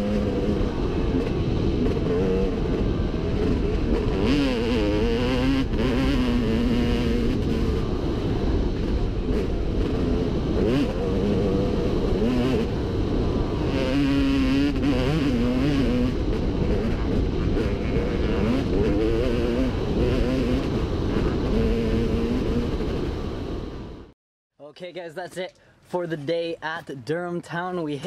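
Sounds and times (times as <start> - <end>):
dirt bike engine revving: 0.0 - 23.4.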